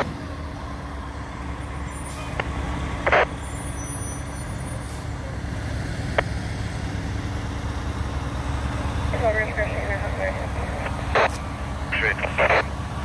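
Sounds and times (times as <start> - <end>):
diesel engines idling: 0.0 - 13.0.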